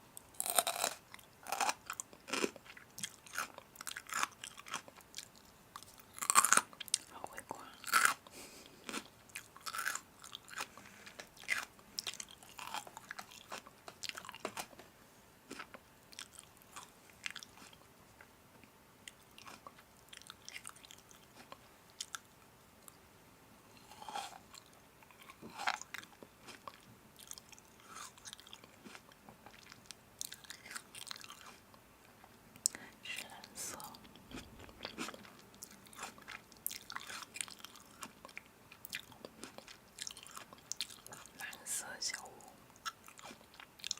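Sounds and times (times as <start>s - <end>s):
person chewing crunchy food: 0.4s - 14.8s, 15.4s - 17.9s, 19.0s - 23.0s, 23.7s - 31.7s, 32.6s - 41.4s, 42.1s - 43.9s.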